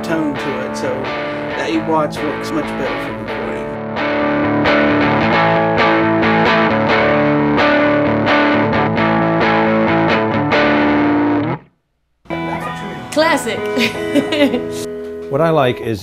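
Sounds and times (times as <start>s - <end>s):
electric guitar chords: 0.0s - 11.7s, 12.3s - 15.9s.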